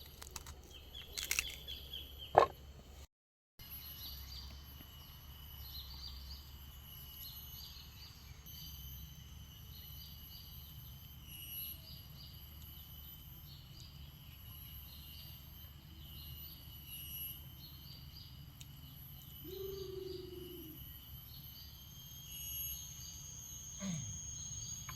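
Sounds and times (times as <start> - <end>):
insects trilling: 3.7 - 24.9.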